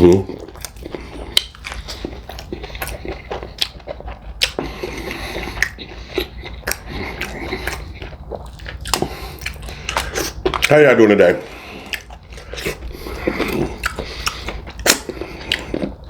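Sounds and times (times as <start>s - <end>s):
crunchy chewing and biting: 0.0s - 10.8s, 11.4s - 16.0s.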